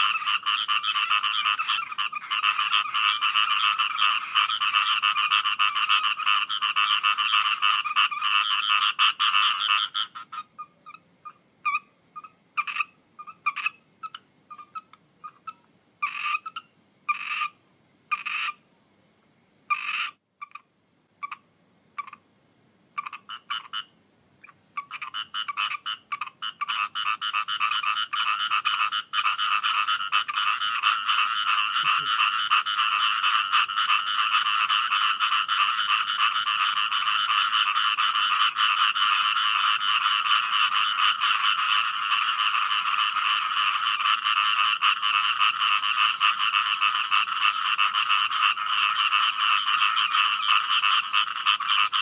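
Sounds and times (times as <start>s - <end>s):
frogs croaking: 0.0s - 52.0s.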